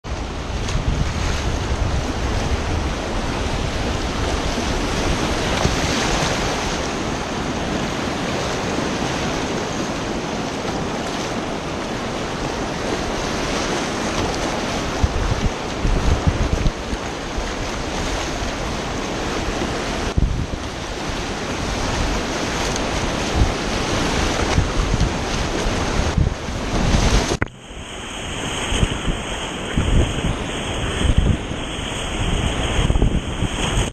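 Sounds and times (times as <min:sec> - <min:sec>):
wind buffeting microphone: 0:00.0 - 0:33.9
whitewater rapids rushing: 0:00.1 - 0:33.0.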